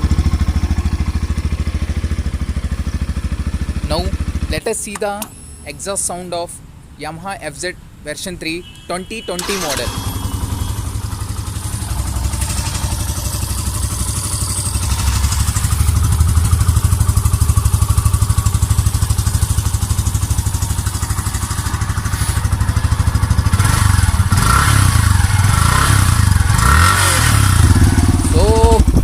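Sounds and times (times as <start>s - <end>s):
motorcycle engine idling: 0.0s - 5.6s, 9.5s - 29.0s.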